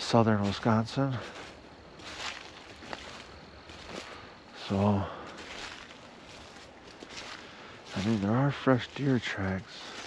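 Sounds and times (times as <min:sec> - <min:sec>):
footsteps in leaf litter: 0:00.0 - 0:10.0.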